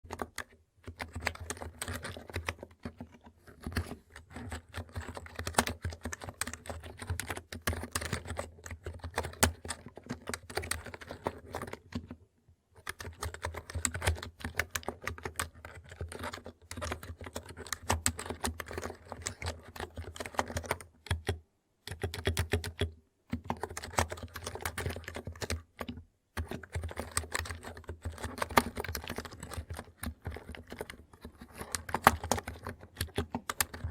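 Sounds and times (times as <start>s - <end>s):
keyboard typing: 0.0s - 12.2s, 12.8s - 33.9s.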